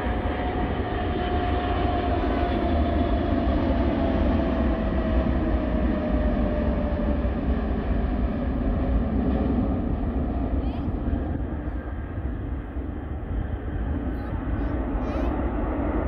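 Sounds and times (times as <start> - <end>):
jet airliner engine roar: 0.0 - 16.0
jet engine whine: 0.0 - 16.0.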